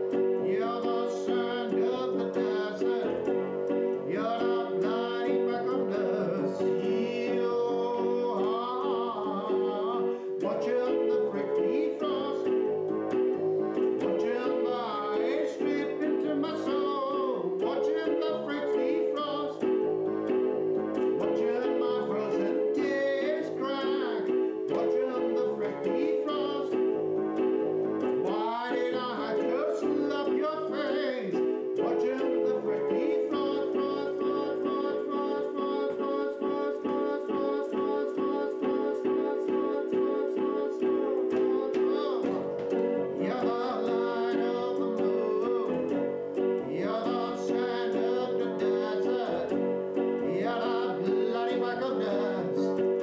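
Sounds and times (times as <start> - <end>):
electronic keyboard chords: 0.0 - 53.0
person singing: 0.0 - 53.0.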